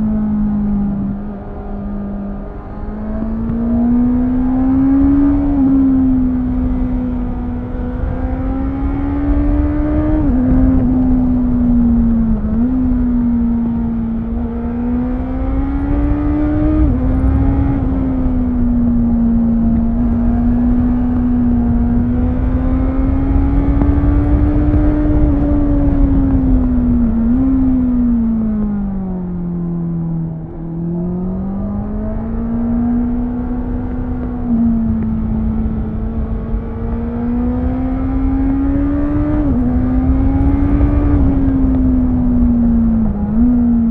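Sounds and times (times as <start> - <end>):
motorcycle engine revving: 0.0 - 43.9
wind rushing over microphone: 0.0 - 43.9.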